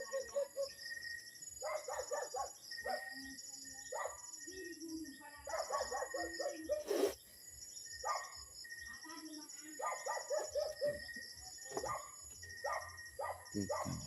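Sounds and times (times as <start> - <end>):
birds chirping: 0.0 - 14.0
insect trill: 0.0 - 14.0.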